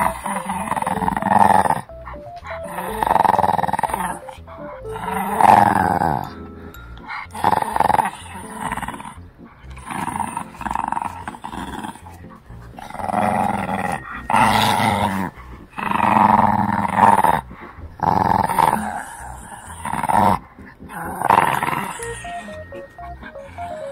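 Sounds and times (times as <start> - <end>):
puppy growling: 0.0 - 6.4, 7.0 - 23.9.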